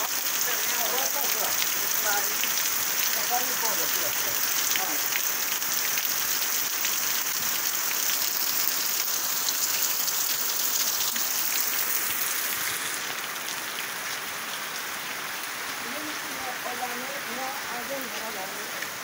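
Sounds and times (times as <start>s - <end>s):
heavy rain on foliage: 0.0s - 19.0s.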